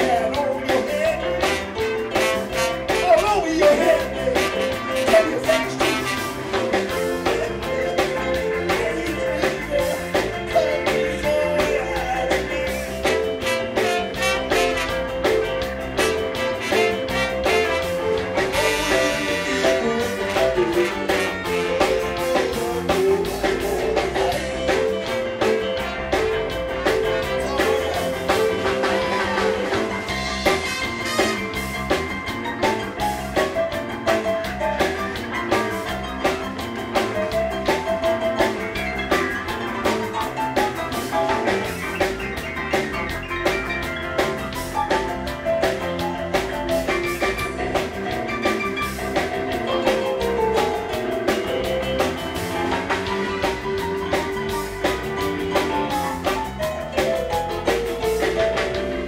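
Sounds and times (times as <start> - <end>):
drum kit steady beat: 0.0 - 59.0
live blues band playing: 0.0 - 59.0.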